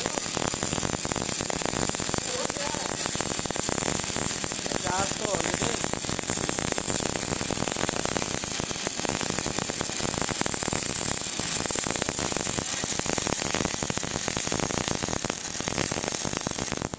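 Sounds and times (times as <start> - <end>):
welding arc crackling: 0.0 - 16.9.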